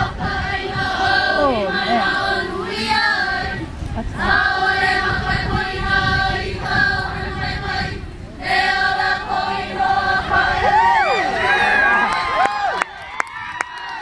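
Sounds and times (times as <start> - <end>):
chorus singing: 0.0 - 12.7.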